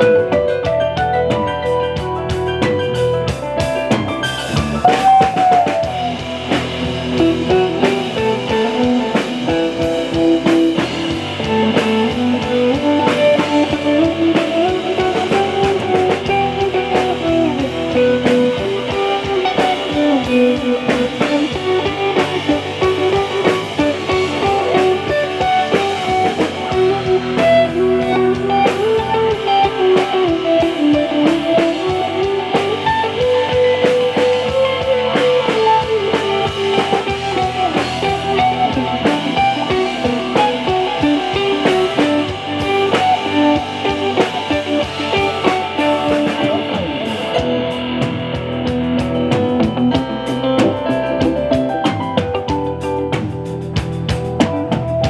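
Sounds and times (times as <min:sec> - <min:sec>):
blues-rock music: 0:00.0 - 0:55.0.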